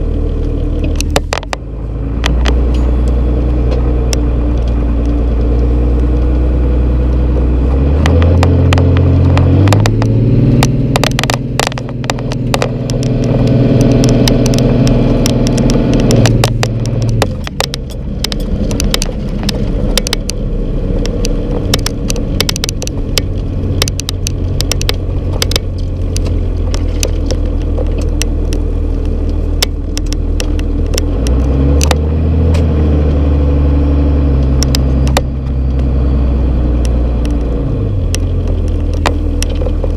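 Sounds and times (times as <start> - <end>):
sharp clicks and rattles: 0.0 - 36.0, 36.6 - 39.9
diesel engine from inside cab: 0.0 - 39.9.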